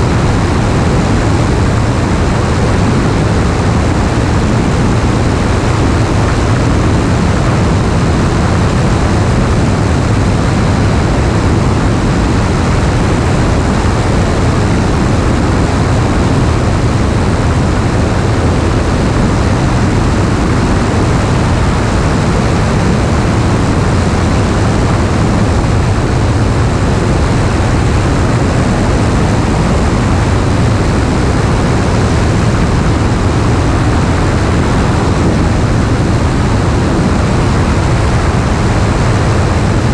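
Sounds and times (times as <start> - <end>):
aircraft engine and propeller droning: 0.0 - 39.9
rushing airflow: 0.0 - 39.9.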